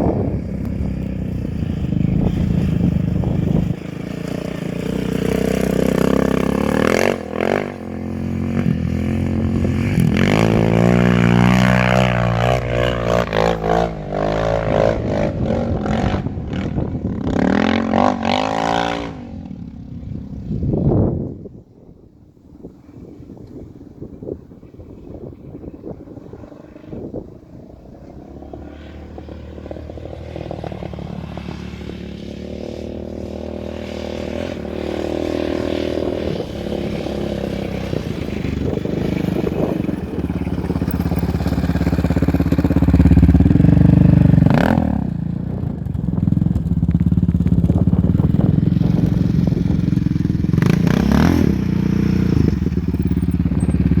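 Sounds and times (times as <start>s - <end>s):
quad engine revving hard: 0.0s - 19.4s, 28.3s - 54.0s.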